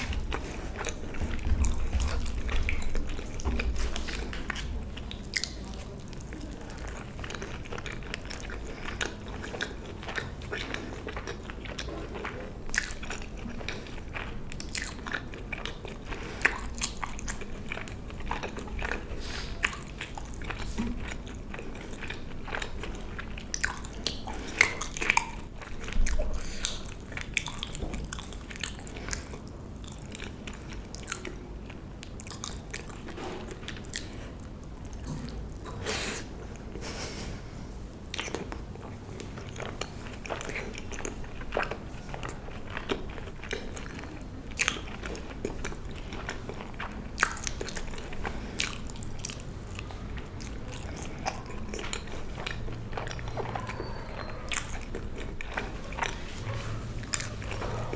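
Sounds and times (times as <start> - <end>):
person chewing and biting food: 0.0 - 36.9, 38.0 - 57.9.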